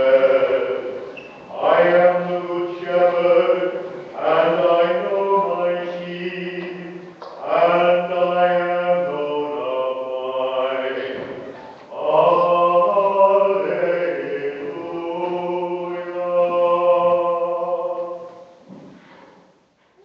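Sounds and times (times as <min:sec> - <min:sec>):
slow liturgical chant: 0:00.0 - 0:20.0.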